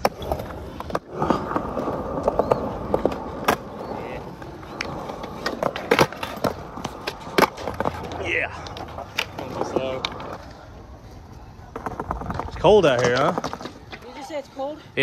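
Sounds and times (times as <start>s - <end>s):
skateboard clacks: 0.0s - 14.3s
skateboard wheels rolling on concrete: 0.0s - 15.0s.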